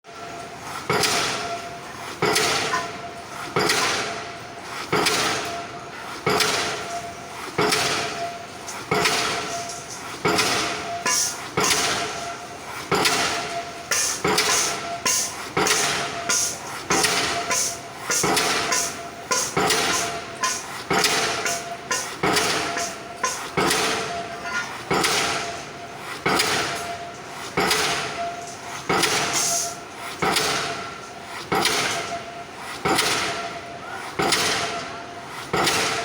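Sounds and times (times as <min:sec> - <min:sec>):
pile-driving hammer ringing blows: 0:00.1 - 0:36.0.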